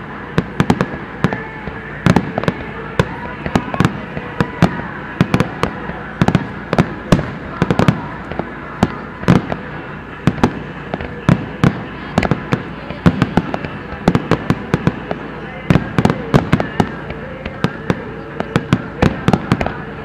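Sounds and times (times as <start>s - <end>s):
fireworks bursting with bangs: 0.0s - 20.0s
loud firework booms: 0.4s - 19.8s.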